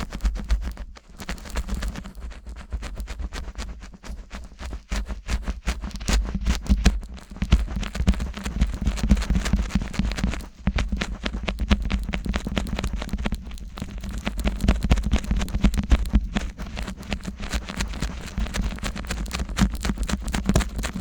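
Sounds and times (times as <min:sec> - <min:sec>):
fingers scratching microphone: 0:00.0 - 0:21.0.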